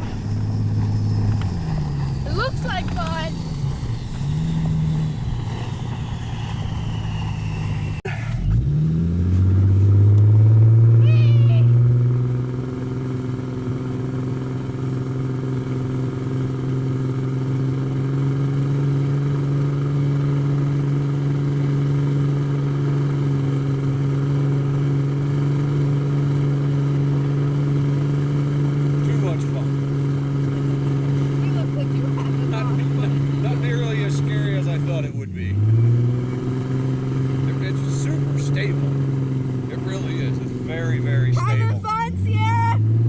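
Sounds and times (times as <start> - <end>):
car engine driving through snow: 0.0 - 43.0.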